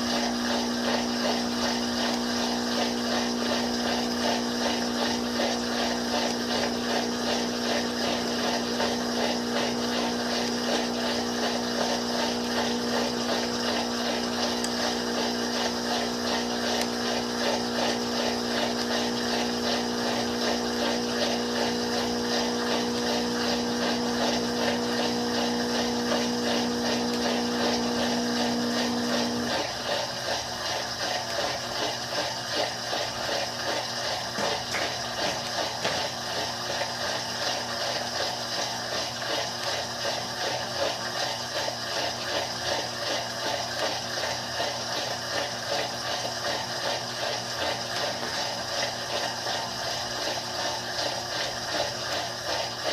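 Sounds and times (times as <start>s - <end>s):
drain pump humming: 0.0s - 52.9s
water gurgling: 0.0s - 52.9s.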